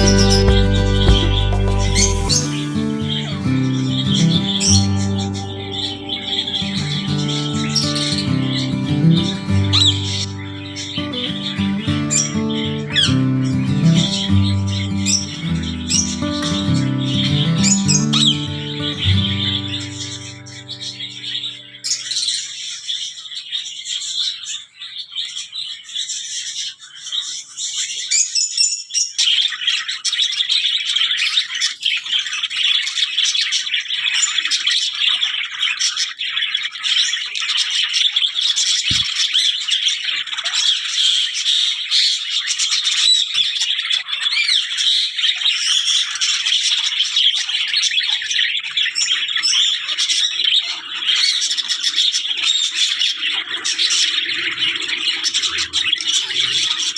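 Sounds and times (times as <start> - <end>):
small birds chattering and squawking: 0.0 - 56.9.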